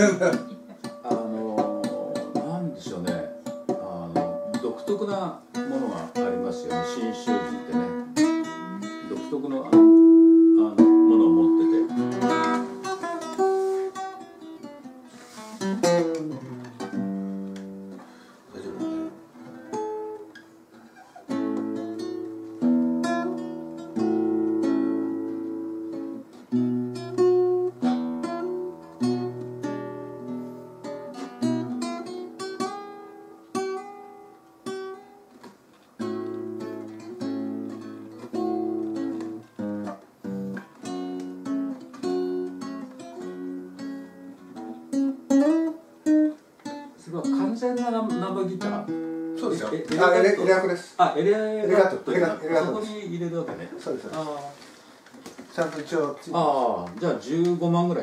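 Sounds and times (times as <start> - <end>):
fingerstyle acoustic guitar: 0.0 - 50.7.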